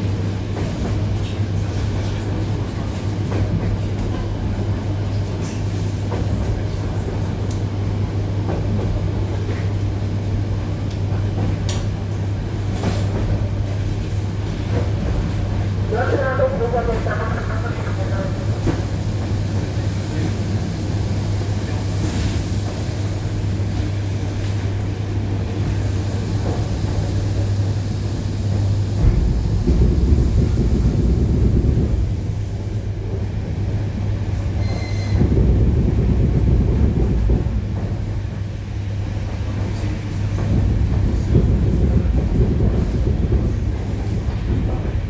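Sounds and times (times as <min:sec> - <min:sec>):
train running gear rumbling: 0:00.0 - 0:45.0.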